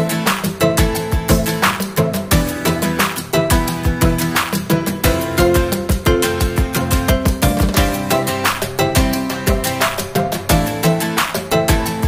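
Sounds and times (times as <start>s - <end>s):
upbeat background music: 0.0s - 12.0s.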